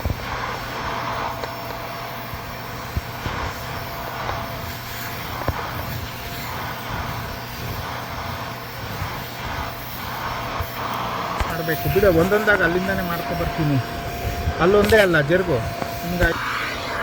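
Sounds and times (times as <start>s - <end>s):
carpet cleaner motor humming: 0.0s - 17.0s.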